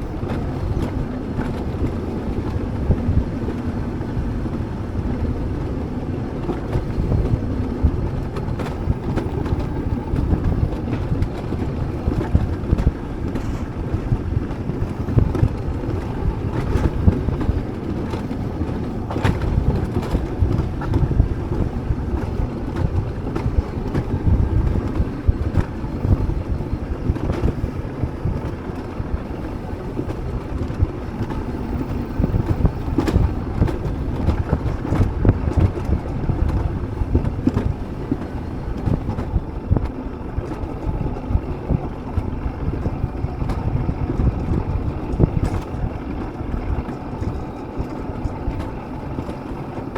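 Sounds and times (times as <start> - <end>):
vehicle rumble: 0.0 - 49.9
wind buffeting microphone: 0.0 - 49.9.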